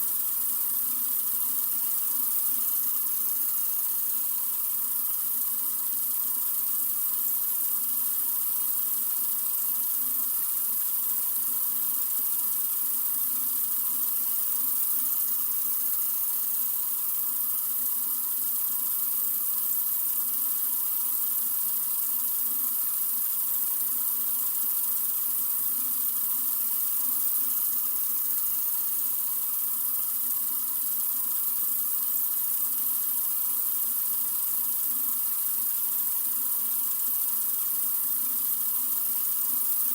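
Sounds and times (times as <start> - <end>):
water running from sink faucet: 0.0 - 39.9.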